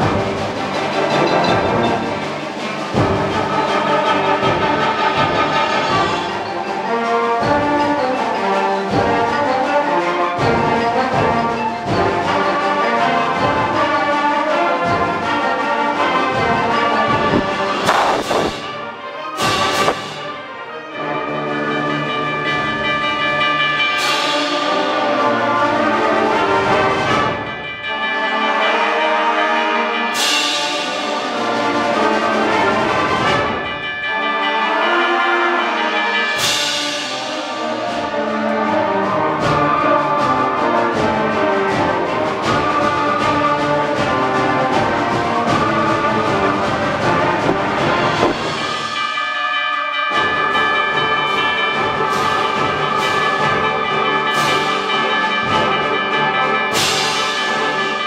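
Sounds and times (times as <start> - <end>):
cymbal accents: 0.0 - 14.2, 14.8 - 29.4, 30.1 - 58.0
concert band playing: 0.0 - 23.2, 23.8 - 58.0.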